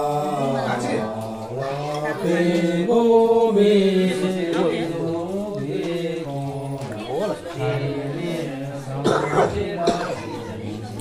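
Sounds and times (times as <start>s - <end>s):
voices chanting: 0.0s - 11.0s.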